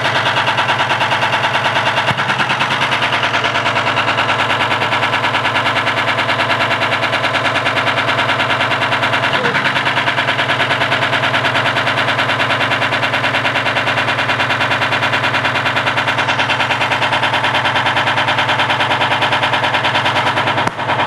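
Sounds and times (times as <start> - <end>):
washing machine knocking: 0.0 - 21.0
washing machine motor hum: 0.0 - 21.0.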